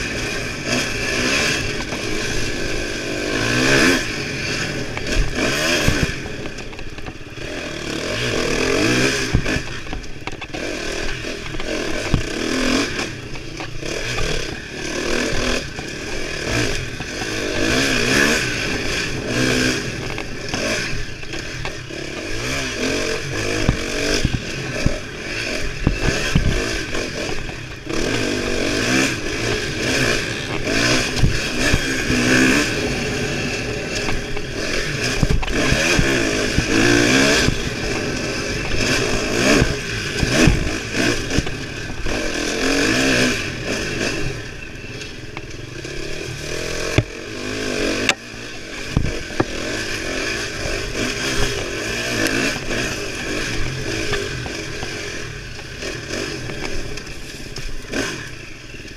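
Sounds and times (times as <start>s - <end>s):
bike rattling over bumps: 0.0s - 58.9s
dirt bike engine revving: 0.0s - 58.9s.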